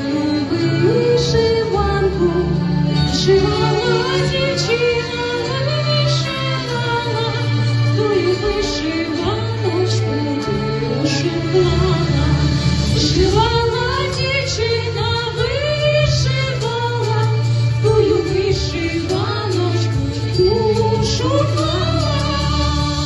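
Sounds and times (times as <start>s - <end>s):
women singing: 0.0s - 23.0s.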